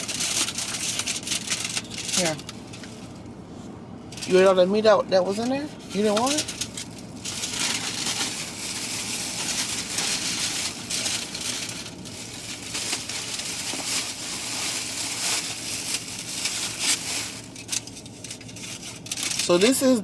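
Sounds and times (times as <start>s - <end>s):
food wrapping crinkling: 0.0s - 20.0s.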